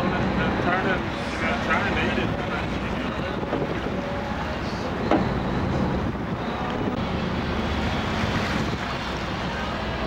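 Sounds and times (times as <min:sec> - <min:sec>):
boat engine low rumble: 0:00.0 - 0:10.0
wind rushing over microphone: 0:01.9 - 0:10.0.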